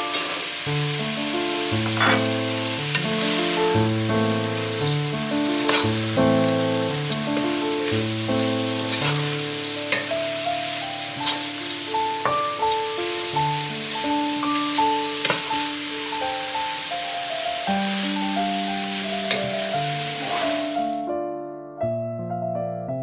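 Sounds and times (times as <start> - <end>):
food sizzling in a pan: 0.0 - 21.1
instrumental background music: 0.0 - 22.9.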